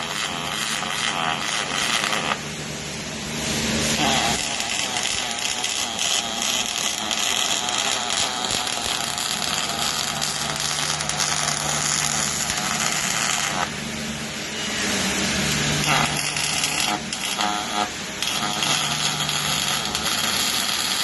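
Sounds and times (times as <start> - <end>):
machine hiss: 3.3 - 21.0.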